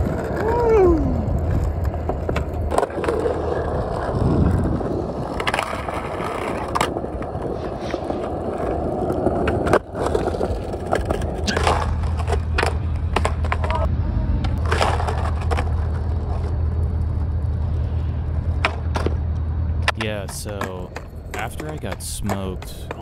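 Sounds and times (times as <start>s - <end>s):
skateboard clacking on ground: 0.0s - 17.8s, 18.4s - 23.0s
skateboard rolling on concrete: 0.0s - 23.0s.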